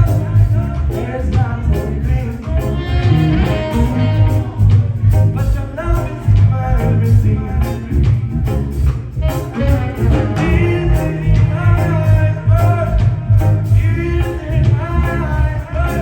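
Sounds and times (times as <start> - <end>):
reggae band playing: 0.0 - 16.0.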